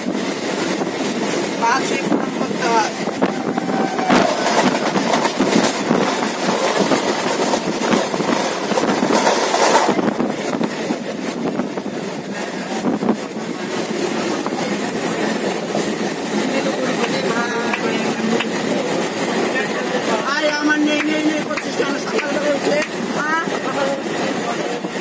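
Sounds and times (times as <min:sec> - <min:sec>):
train rumble and wheel clatter: 0:00.0 - 0:25.0.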